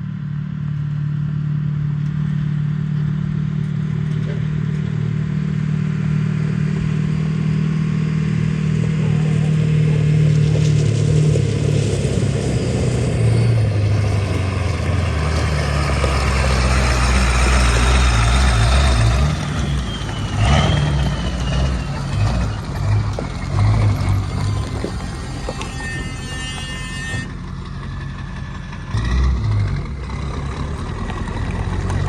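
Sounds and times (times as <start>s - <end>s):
truck engine running: 0.0s - 32.0s.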